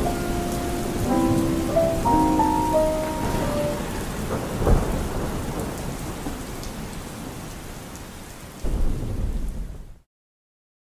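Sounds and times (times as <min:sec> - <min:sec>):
thunder rumbling: 0:00.0 - 0:07.5, 0:08.6 - 0:10.0
steady rain: 0:00.0 - 0:10.1.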